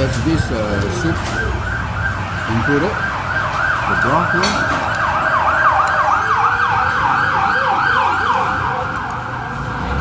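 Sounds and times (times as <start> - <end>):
emergency siren sweeping: 0.0 - 10.0.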